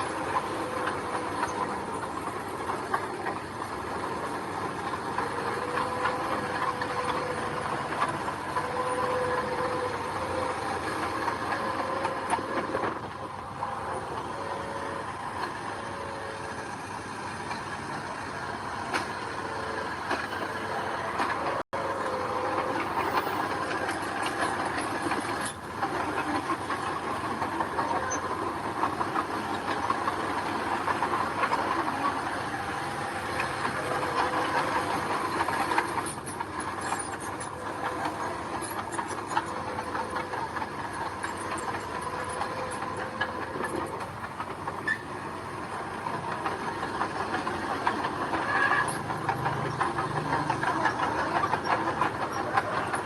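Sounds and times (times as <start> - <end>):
bulldozer engine droning: 0.0 - 53.0
crawler tracks clanking and rattling: 0.0 - 53.0.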